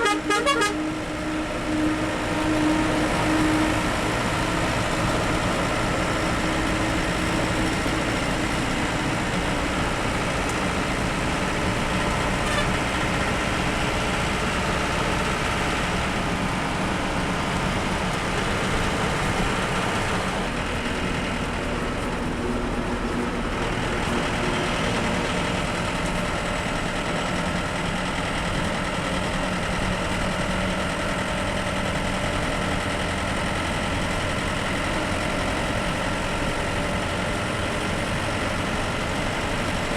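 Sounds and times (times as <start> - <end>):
bus engine running: 0.0 - 39.9
road and tyre noise: 0.0 - 39.9.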